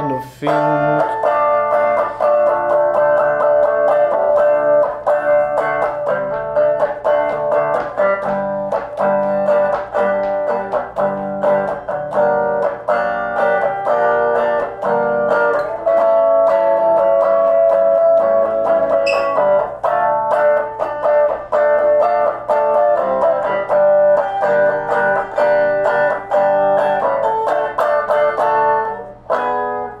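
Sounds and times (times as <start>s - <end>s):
electric guitar playing: 0.0s - 30.0s.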